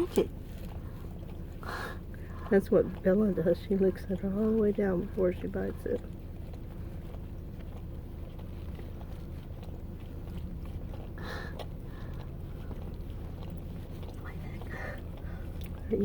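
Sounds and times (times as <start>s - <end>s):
dog licking ice cream: 0.0s - 16.0s
steady low hum: 0.0s - 16.0s.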